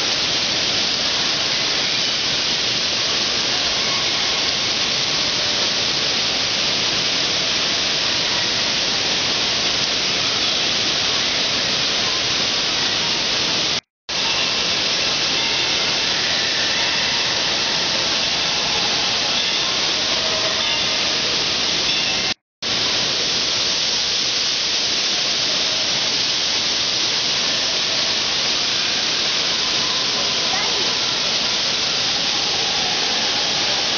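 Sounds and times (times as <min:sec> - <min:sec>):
fountain jets hissing: 0:00.0 - 0:33.9.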